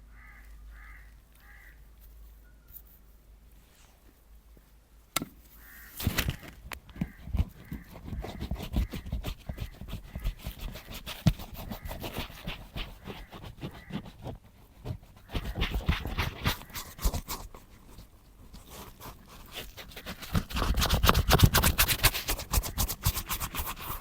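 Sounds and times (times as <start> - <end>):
brushing and scraping leather boots: 1.5 - 4.3, 5.6 - 24.0.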